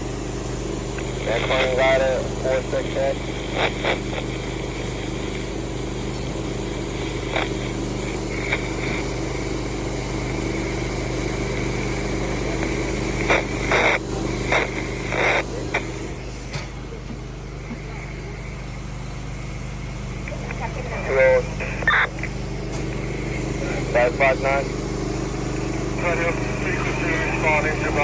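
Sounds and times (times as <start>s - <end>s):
engines humming: 0.0s - 28.0s.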